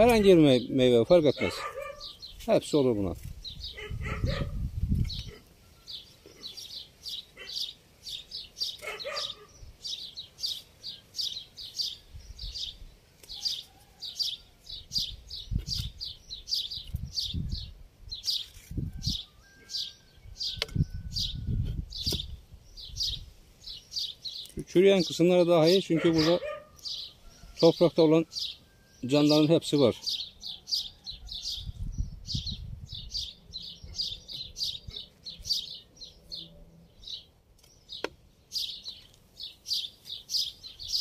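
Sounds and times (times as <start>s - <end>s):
small bird chirping: 1.3s - 27.7s, 28.3s - 41.0s.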